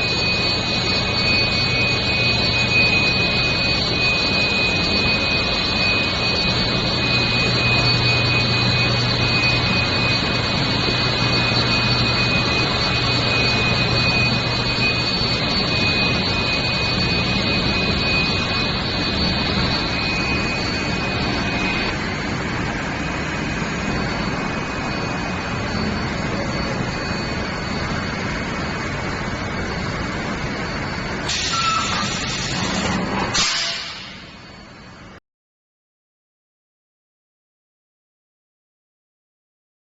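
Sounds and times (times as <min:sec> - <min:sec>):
high-pitched machine whine: 0:00.0 - 0:35.2
industrial machinery hum: 0:00.0 - 0:35.2.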